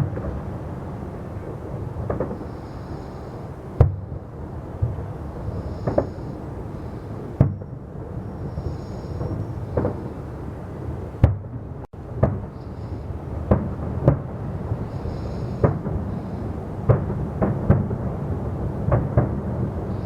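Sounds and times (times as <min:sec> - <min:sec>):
fireworks booming: 0:00.0 - 0:10.4, 0:11.2 - 0:20.0.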